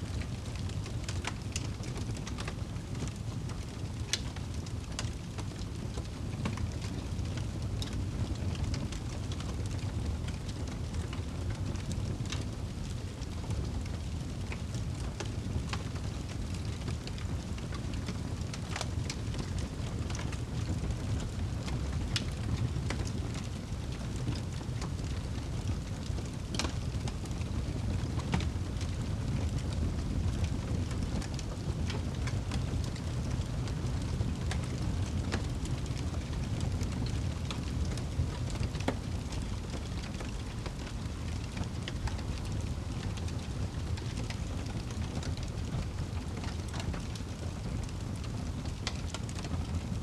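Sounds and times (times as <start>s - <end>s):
wood fire crackling and popping: 0.1s - 50.0s.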